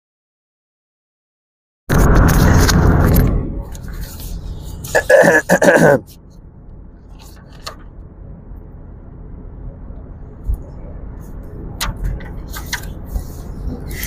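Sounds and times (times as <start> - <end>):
vehicle rumble: 1.9 - 14.0.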